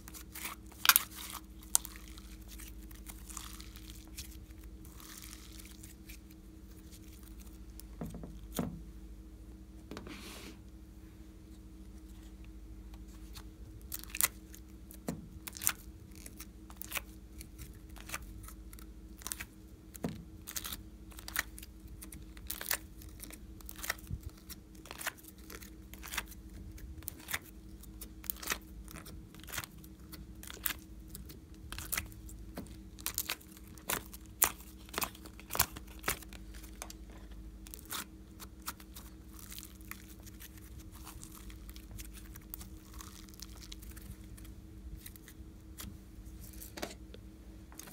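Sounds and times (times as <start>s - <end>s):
slime clicking and crackling: 0.0s - 7.9s, 13.3s - 45.9s.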